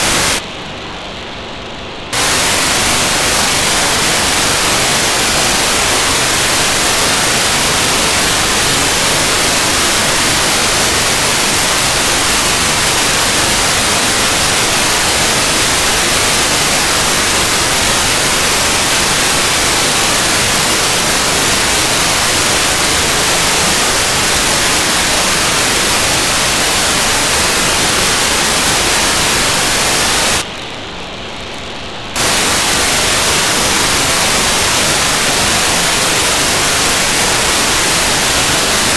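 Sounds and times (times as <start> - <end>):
radio receiver hiss: 0.0 - 38.9.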